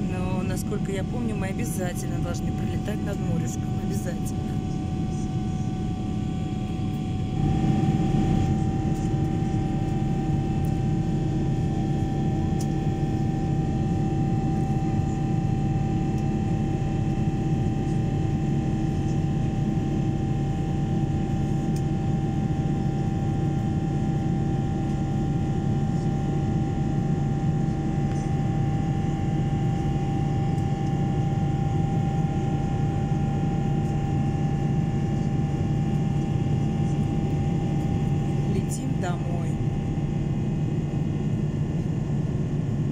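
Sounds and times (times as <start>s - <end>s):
jet engines humming and whining: 0.0s - 42.9s.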